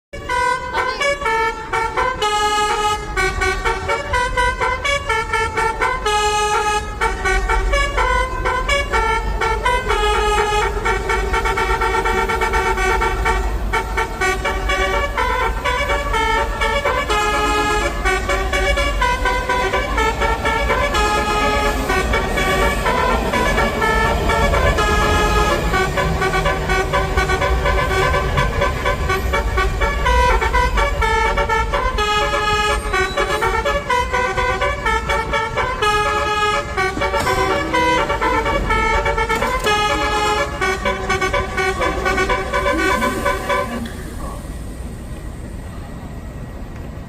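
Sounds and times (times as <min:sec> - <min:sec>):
train horn playing a tune: 0:00.2 - 0:44.2.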